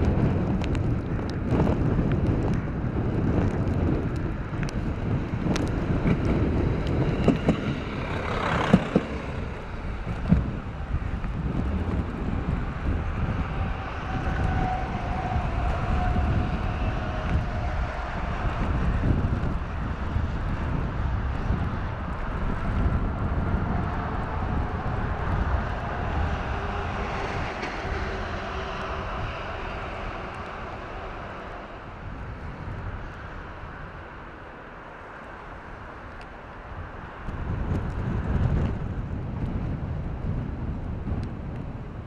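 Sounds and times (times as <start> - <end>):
diesel railcar rumbling: 0.0 - 42.0.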